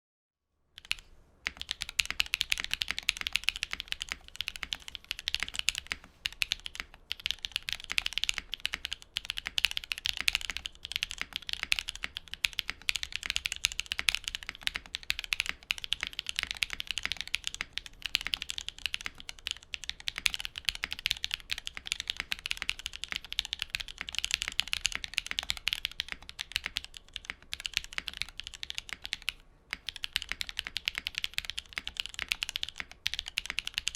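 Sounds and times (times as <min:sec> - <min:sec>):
mechanical keyboard typing: 0:00.8 - 0:33.9.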